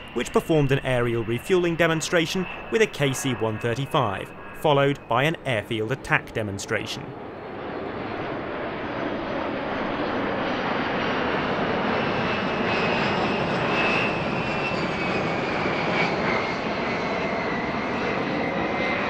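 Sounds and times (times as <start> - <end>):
jet engines passing overhead: 0.0 - 19.0.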